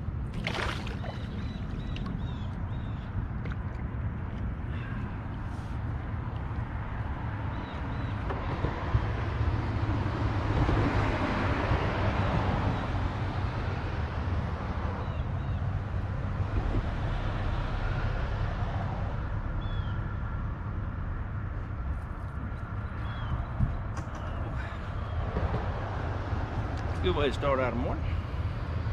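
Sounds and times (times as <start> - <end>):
steady low traffic hum: 0.0 - 28.9.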